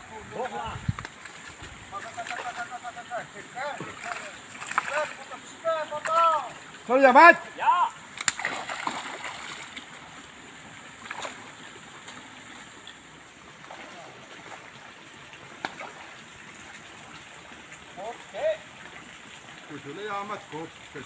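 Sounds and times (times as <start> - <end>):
pond water splashing: 0.0 - 21.0.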